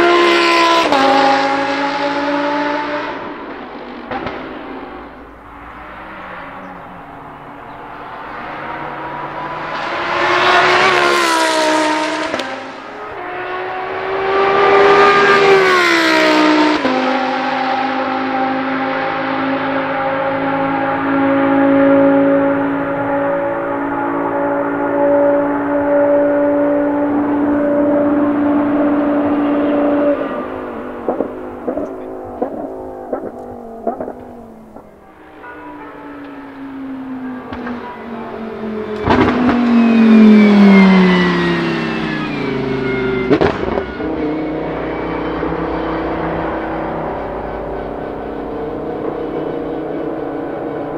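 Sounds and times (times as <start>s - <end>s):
race car engine at high revs: 0.0s - 50.9s.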